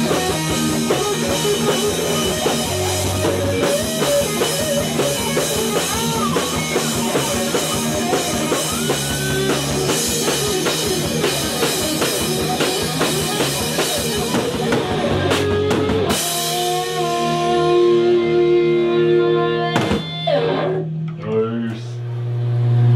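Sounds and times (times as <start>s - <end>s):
drum kit: 0.0s - 21.8s
bass guitar: 0.0s - 22.9s
electric guitar lead line: 0.0s - 22.9s.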